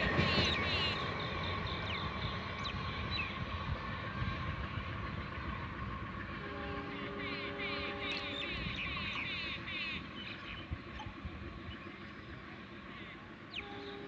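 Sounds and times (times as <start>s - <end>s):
passenger train rumbling: 0.0s - 14.0s.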